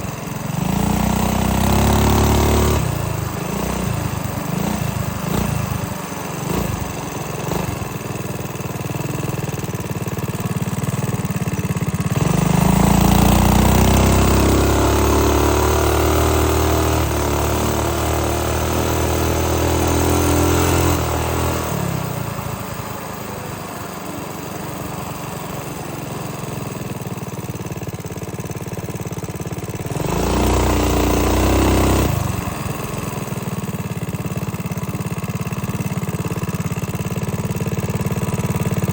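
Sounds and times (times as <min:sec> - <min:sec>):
minibike engine revving: 0:00.0 - 0:38.9.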